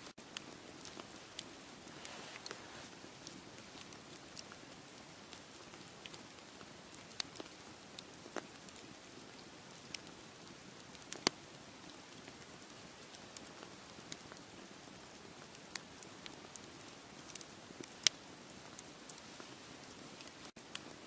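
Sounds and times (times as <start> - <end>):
campfire crackling and popping: 0.1 - 21.0.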